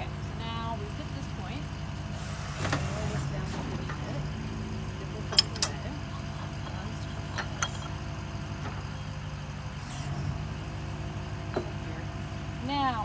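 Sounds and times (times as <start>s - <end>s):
drilling rig engine running: 0.0s - 13.0s.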